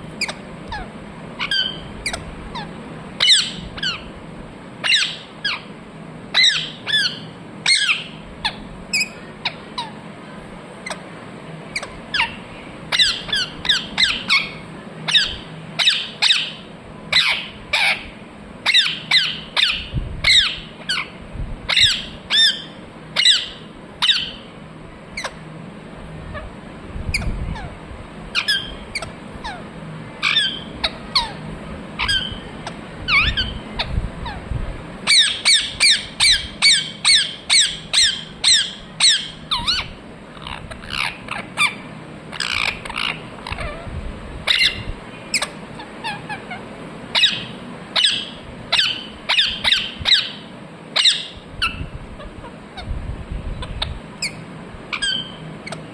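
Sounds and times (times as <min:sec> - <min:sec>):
parakeet chirping: 0:00.2 - 0:04.1, 0:04.8 - 0:05.7, 0:06.3 - 0:10.0, 0:10.8 - 0:11.1, 0:11.7 - 0:24.5, 0:25.2 - 0:25.4, 0:27.1 - 0:27.7, 0:28.3 - 0:34.4, 0:35.0 - 0:43.8, 0:44.4 - 0:52.9, 0:53.6 - 0:55.9.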